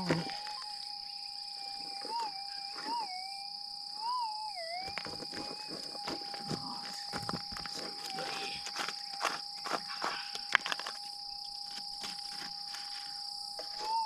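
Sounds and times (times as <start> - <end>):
high insect drone: 0.0 - 14.0
metal detector humming: 0.0 - 14.0.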